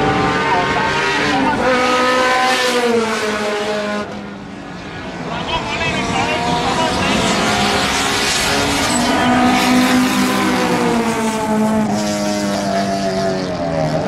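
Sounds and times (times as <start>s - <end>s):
race car engines at high revs: 0.0s - 14.0s.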